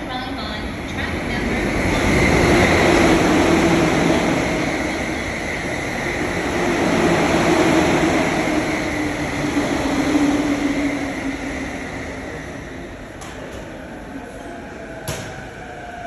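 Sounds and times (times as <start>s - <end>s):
train rolling and rumbling: 0.0s - 16.0s.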